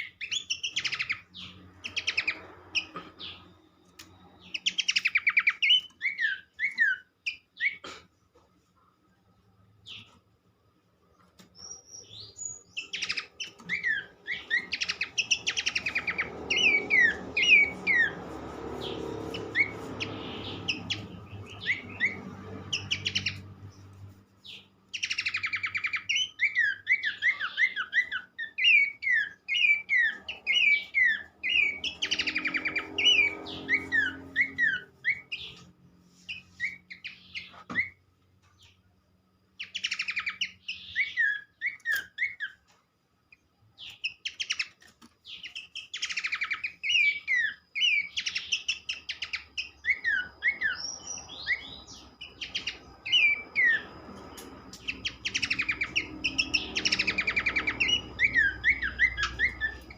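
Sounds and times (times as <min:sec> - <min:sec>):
bird whistles and buzzy rattling calls: 0:00.0 - 0:07.8, 0:11.1 - 0:59.9.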